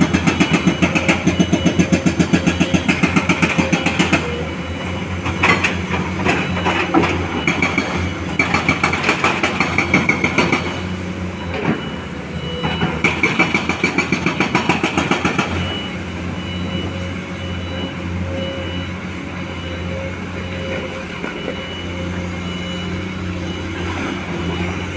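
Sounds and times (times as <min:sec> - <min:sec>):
heavy diesel machinery running: 0:00.0 - 0:24.9.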